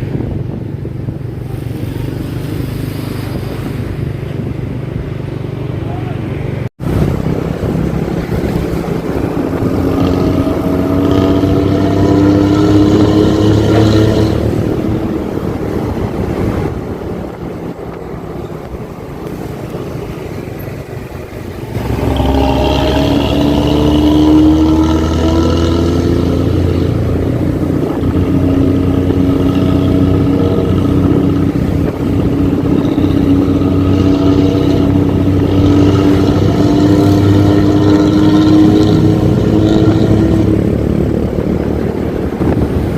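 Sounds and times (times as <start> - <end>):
diesel bus engine growling: 0.0 - 42.9.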